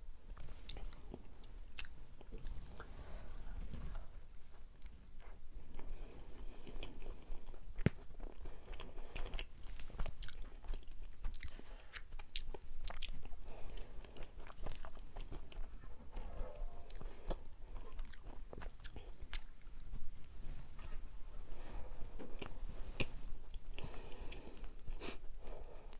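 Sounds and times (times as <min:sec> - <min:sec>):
chewing soft rice cake: 0:00.3 - 0:25.9.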